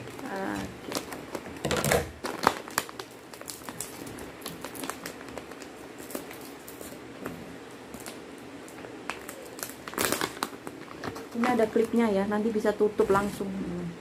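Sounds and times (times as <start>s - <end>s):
plastic snack bag crinkling: 0.0s - 12.4s.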